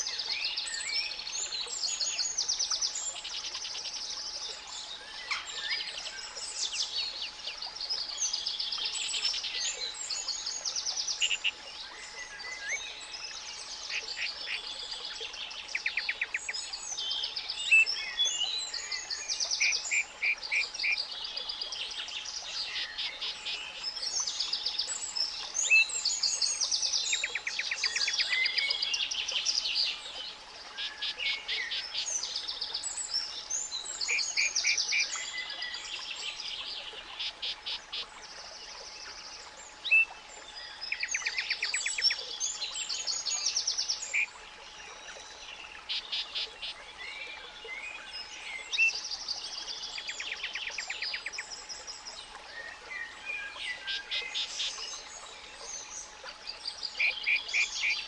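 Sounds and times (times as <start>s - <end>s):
birds singing and chirping: 0.0s - 58.0s.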